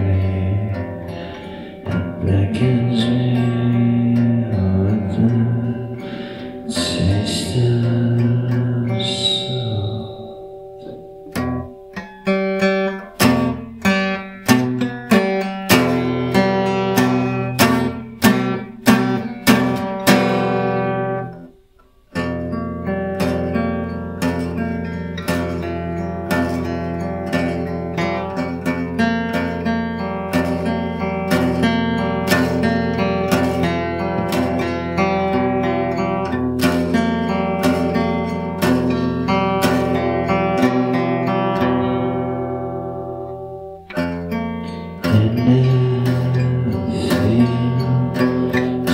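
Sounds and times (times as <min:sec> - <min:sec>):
acoustic guitar playing blues: 0:00.0 - 0:48.9.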